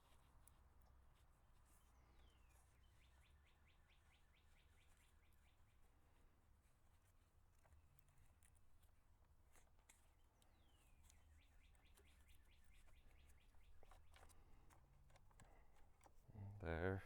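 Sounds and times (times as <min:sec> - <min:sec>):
faint bird song: 0:00.0 - 0:17.0.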